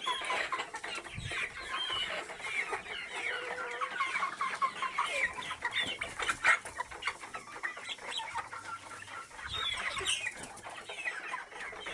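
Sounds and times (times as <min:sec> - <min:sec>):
chickens clucking: 0:00.0 - 0:11.9.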